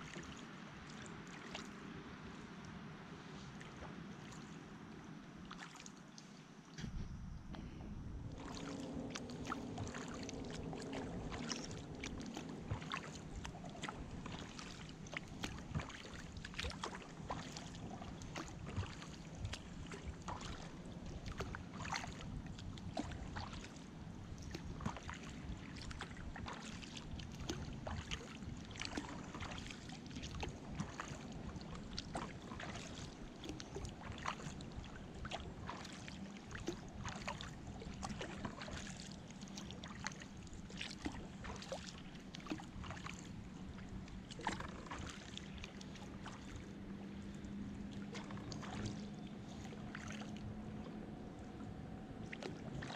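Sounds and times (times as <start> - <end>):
small splashes: 0.0 - 4.8, 5.4 - 51.6, 52.2 - 52.9
paddle dipping in water: 0.0 - 52.9
water lapping against hull: 0.0 - 52.9.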